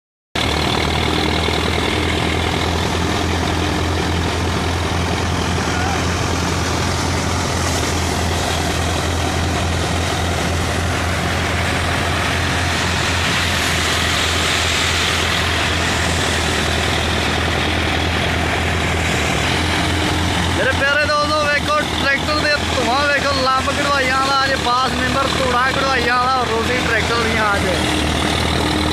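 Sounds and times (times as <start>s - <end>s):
threshing machine rushing noise: 0.4s - 28.9s
tractor engine drone: 0.4s - 28.9s.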